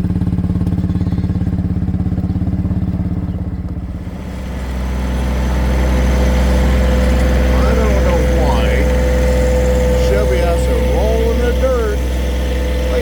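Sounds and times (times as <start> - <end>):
farm vehicle engine running: 0.0 - 13.0.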